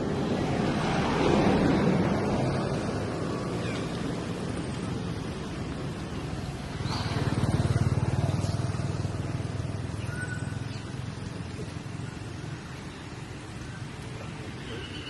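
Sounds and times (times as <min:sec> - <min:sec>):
vehicle engine passing by: 0:00.0 - 0:12.3.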